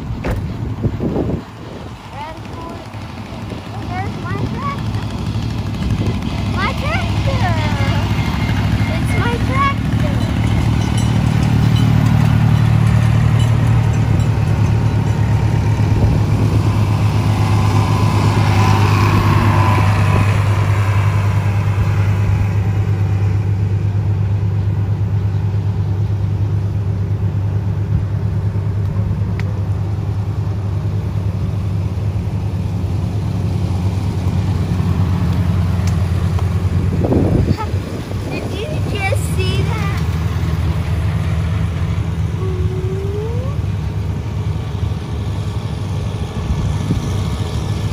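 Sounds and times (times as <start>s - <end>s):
tractor engines droning: 0.0s - 47.9s.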